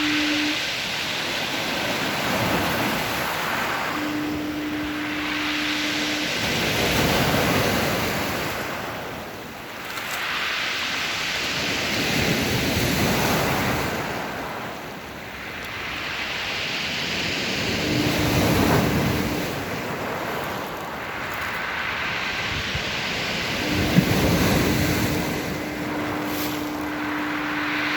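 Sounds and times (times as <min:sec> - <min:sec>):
lighthouse horn: 0:00.0 - 0:09.8, 0:10.7 - 0:27.9
heavy surf breaking: 0:00.0 - 0:27.9
wind on microphone: 0:00.0 - 0:27.9.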